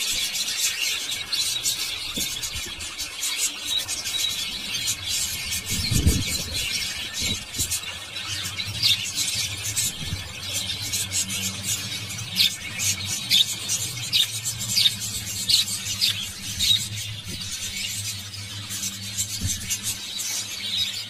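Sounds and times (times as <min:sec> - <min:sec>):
birds twittering: 0:00.0 - 0:21.0.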